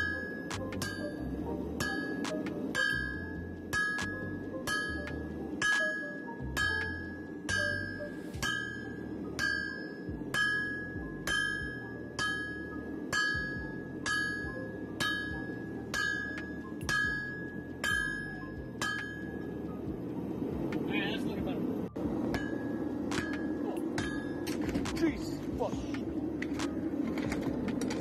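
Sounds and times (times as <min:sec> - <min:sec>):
hammer striking steel on anvil: 0:00.0 - 0:19.5, 0:22.2 - 0:25.2.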